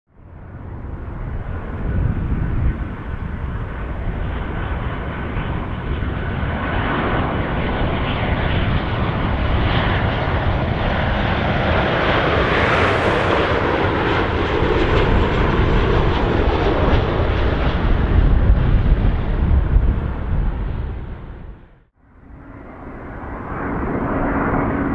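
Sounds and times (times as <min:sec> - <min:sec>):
jet engines rumbling whoosh: 0:00.5 - 0:24.9.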